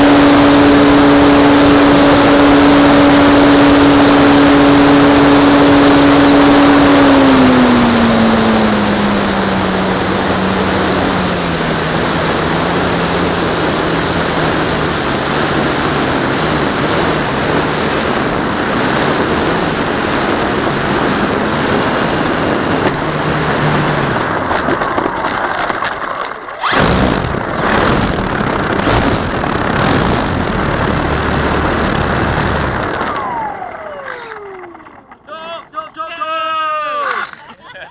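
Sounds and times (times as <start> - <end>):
model plane motor and propeller: 0.0 - 37.9.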